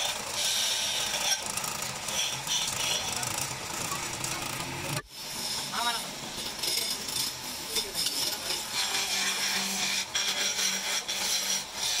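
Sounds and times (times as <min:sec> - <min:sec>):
chisel scraping spinning wood: 0:00.0 - 0:12.0.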